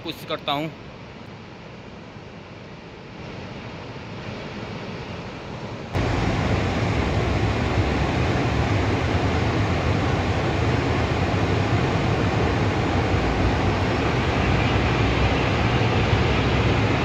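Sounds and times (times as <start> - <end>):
river rushing roar: 2.8 - 17.0.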